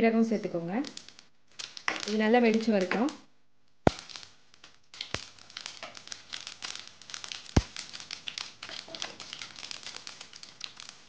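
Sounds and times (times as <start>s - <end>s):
seeds spluttering in hot oil: 0.5s - 11.0s.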